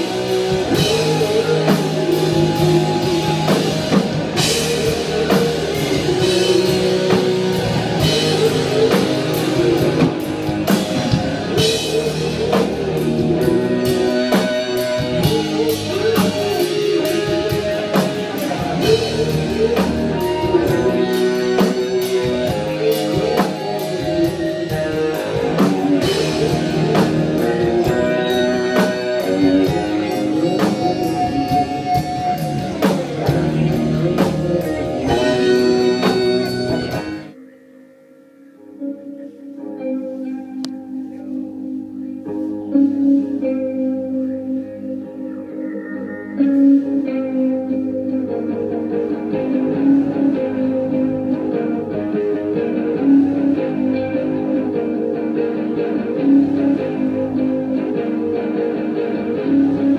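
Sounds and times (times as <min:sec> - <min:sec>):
rock band music: 0:00.0 - 0:59.9.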